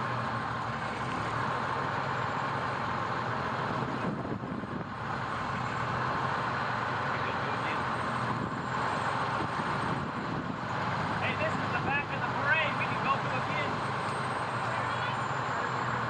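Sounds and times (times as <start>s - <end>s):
fire truck engine running: 0.0s - 16.0s.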